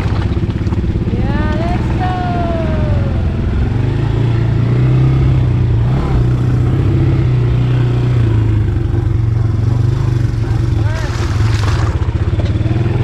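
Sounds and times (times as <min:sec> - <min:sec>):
atv engine droning: 0:00.0 - 0:13.0.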